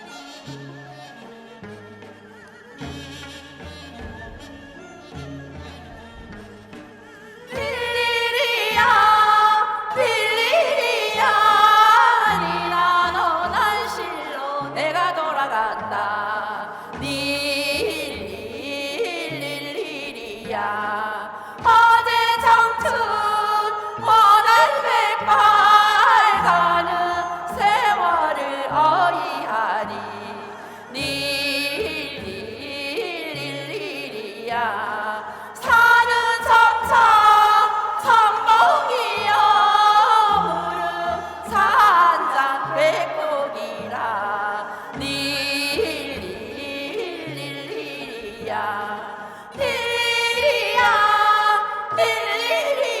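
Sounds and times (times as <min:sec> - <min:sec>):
instrumental accompaniment: 0:00.0 - 0:52.6
folk song singing: 0:07.4 - 0:53.0.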